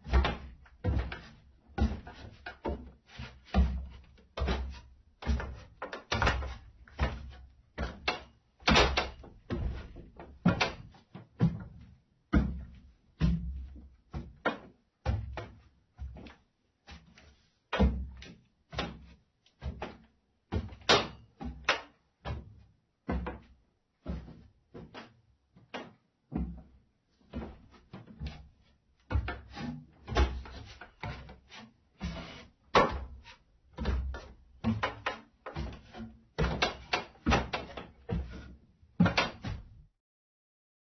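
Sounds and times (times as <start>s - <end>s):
footsteps on wooden stairs: 0.0s - 39.7s.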